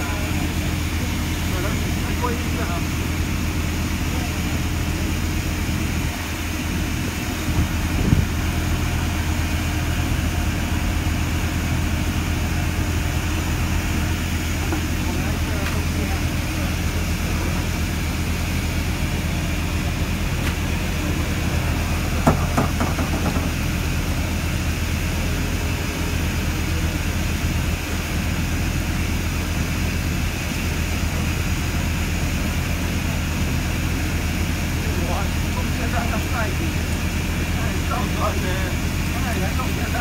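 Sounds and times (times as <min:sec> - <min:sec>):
engine running with deep drone: 0:00.0 - 0:40.0.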